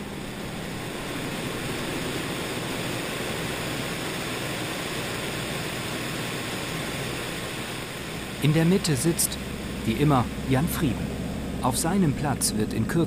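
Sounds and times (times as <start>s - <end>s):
airplane engine noise: 0.0s - 13.0s.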